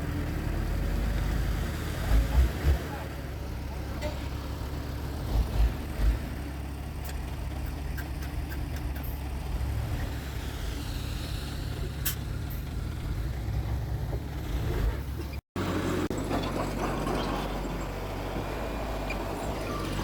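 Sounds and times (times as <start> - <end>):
heavy diesel engine rumbling: 0.0 - 20.0.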